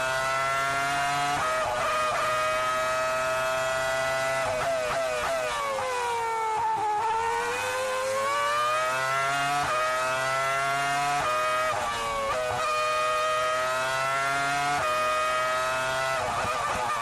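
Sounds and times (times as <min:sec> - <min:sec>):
racing car engine: 0:00.0 - 0:17.0.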